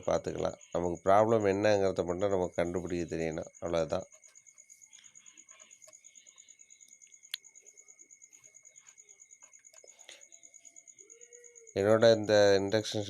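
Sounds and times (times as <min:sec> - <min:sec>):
cricket chirping: 0:00.0 - 0:13.0
faint steady whine: 0:00.0 - 0:13.0.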